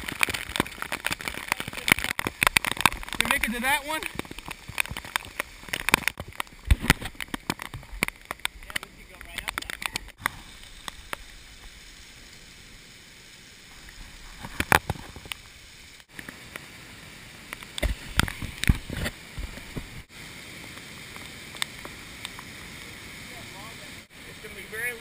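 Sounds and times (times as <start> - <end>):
floodwater rushing: 0.0 - 25.0
waterfalls pouring: 0.0 - 25.0.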